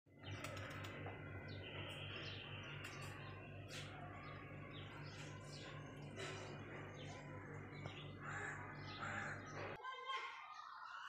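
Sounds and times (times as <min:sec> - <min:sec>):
birds chirping: 0:00.1 - 0:09.8.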